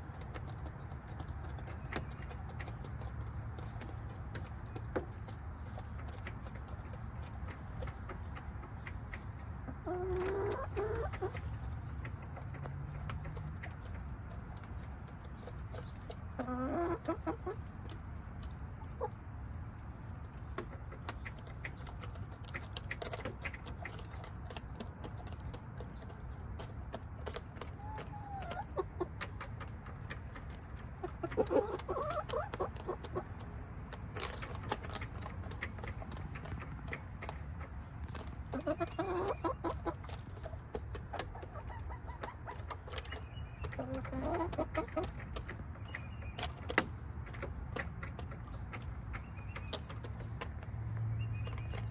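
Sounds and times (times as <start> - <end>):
hens clucking: 0.0 - 51.9.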